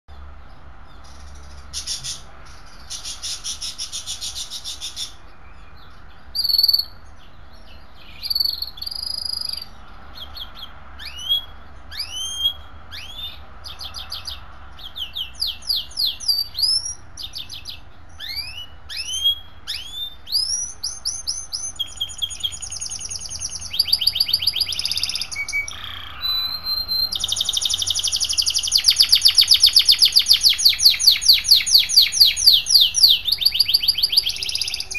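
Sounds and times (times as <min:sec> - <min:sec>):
songbird singing trills: 0:00.1 - 0:34.9.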